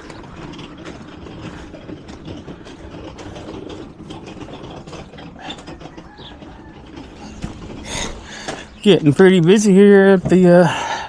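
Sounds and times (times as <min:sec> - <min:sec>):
mechanical rattling and clicking: 0:00.0 - 0:11.0.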